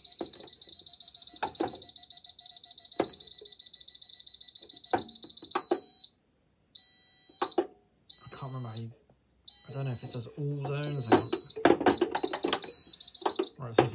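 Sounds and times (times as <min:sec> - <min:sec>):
fire panel buzzer tone: 0:00.0 - 0:06.2, 0:06.8 - 0:08.9, 0:09.5 - 0:13.9.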